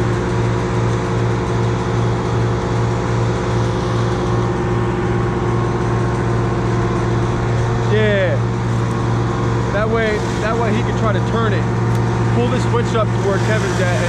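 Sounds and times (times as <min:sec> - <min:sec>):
large engine idling: 0:00.0 - 0:14.0.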